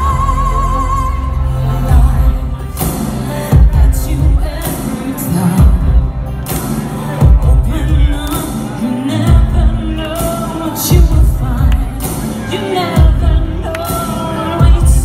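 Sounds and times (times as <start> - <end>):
woman singing pop ballad: 0.0 - 6.6, 7.2 - 15.0
amplified backing track: 0.0 - 15.0.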